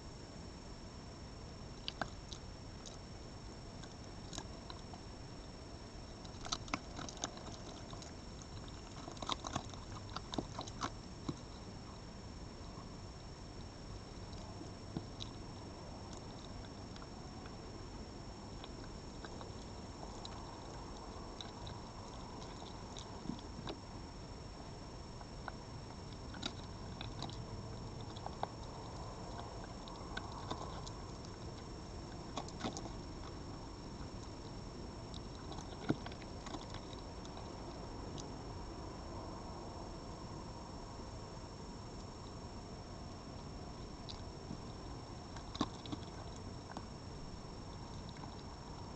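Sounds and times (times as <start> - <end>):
faint high whine: 0.0 - 48.9
steady background hiss: 0.0 - 48.9
animal chewing and crunching food: 1.7 - 39.6, 41.8 - 48.9.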